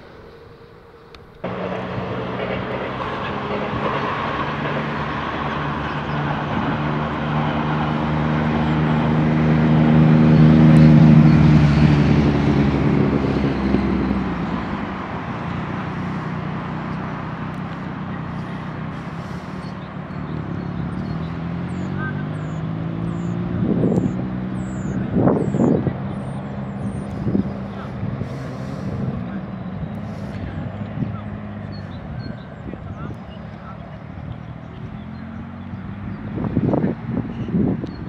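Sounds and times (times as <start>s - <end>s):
train engine hum passing: 0.0s - 38.0s.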